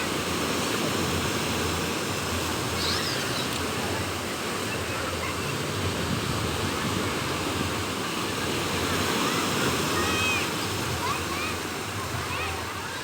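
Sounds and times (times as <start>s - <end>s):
waves washing onto beach: 0.0s - 13.0s
wind: 0.0s - 13.0s.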